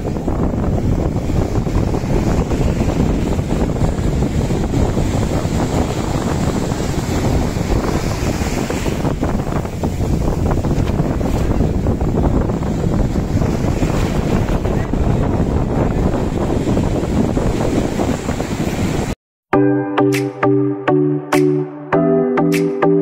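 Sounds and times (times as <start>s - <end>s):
waves breaking on shore: 0.0s - 19.2s
wind buffeting microphone: 0.0s - 19.2s.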